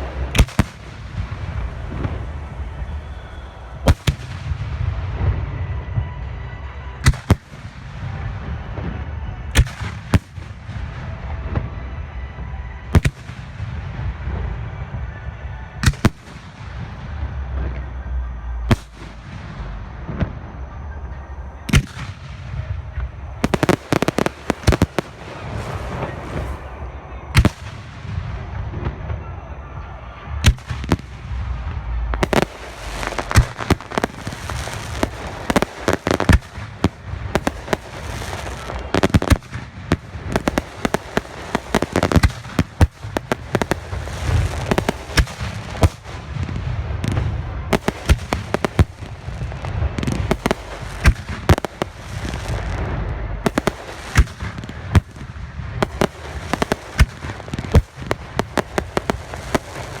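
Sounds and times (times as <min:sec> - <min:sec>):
fireworks bangs: 0:00.0 - 0:12.0, 0:12.8 - 1:00.0
fireworks crackling and rumbling: 0:00.0 - 1:00.0.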